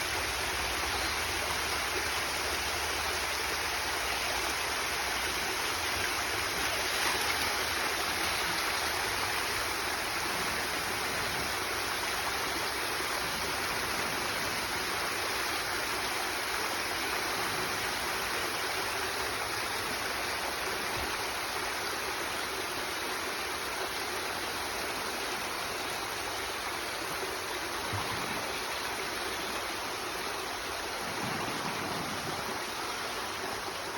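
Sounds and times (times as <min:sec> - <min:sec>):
water rushing down waterfall: 0:00.0 - 0:33.9.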